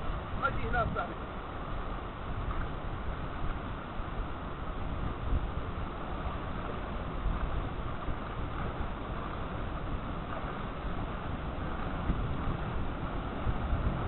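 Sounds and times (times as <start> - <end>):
sea surf on rocks: 0.0 - 14.0
wind buffeting microphone: 0.0 - 14.0.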